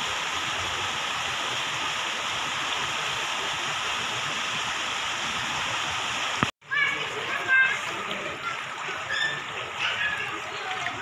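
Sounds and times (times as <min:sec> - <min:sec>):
rush of running water: 0:00.0 - 0:11.0.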